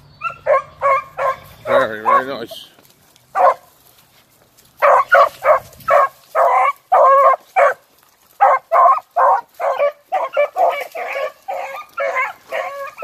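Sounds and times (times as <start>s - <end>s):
dogs baying: 0.2s - 2.6s, 3.3s - 3.7s, 4.8s - 13.0s.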